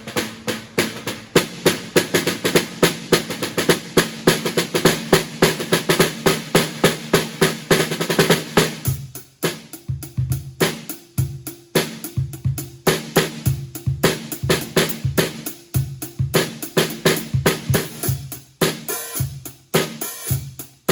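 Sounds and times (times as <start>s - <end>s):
snare drum strokes: 0.0s - 20.9s.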